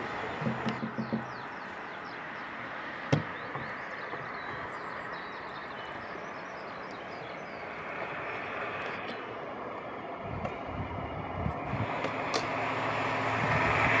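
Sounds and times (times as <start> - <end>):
birds chirping: 0.0 - 13.9
train rolling: 0.0 - 14.0.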